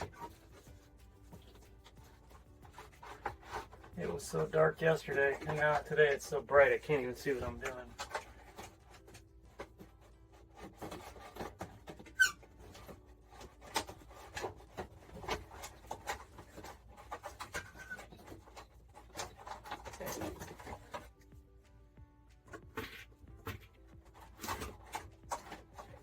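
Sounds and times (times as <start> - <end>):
plastic parts rubbing and scraping: 0.0 - 26.0.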